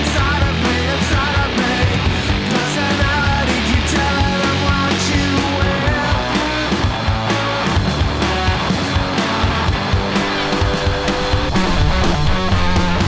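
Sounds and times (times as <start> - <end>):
punk rock music: 0.0 - 13.0.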